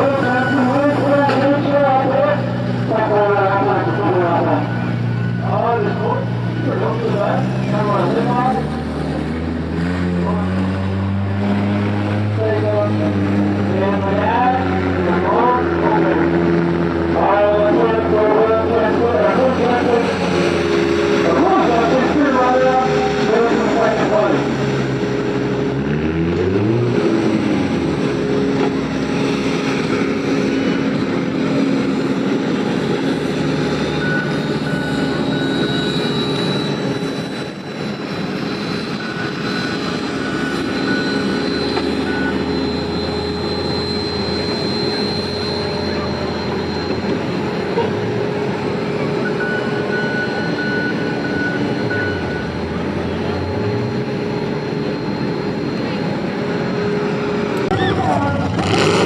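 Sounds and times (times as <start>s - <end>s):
engine revving: 0.0s - 59.0s
engines idling: 0.0s - 59.0s.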